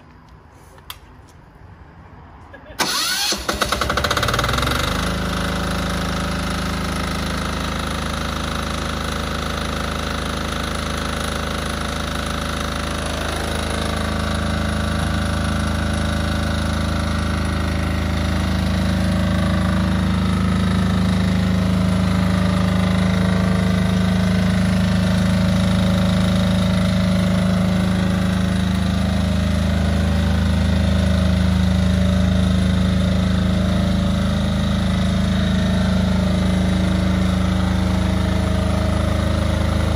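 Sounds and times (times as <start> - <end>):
diesel generator engine running: 1.8 - 39.9.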